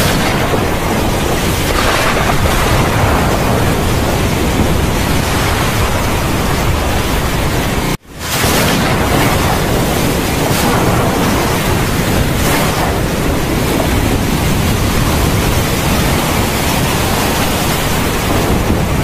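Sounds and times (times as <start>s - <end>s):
heavy torrential rain: 0.0s - 19.0s.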